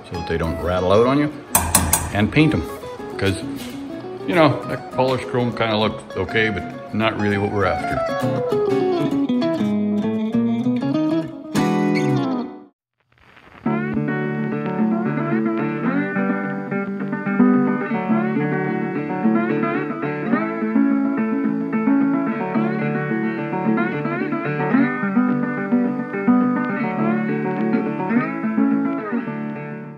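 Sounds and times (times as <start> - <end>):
plucked guitar music: 0.0 - 12.7, 13.6 - 29.9.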